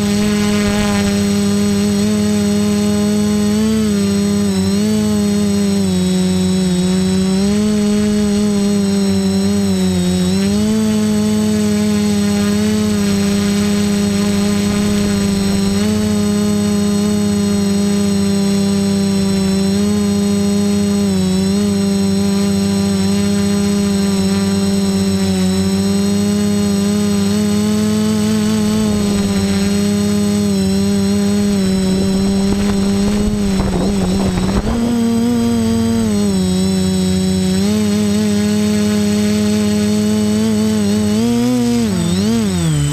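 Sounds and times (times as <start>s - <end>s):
quadcopter propellers whining: 0.0s - 42.9s.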